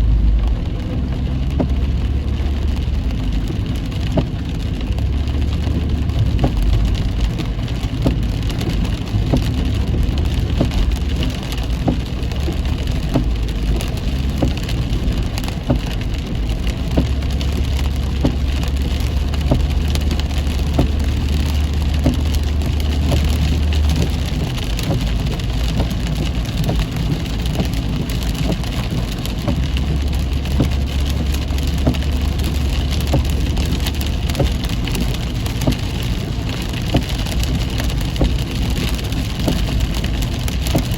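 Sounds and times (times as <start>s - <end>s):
car rumbling on the road: 0.0s - 40.9s
rain pattering on a car: 0.0s - 40.9s.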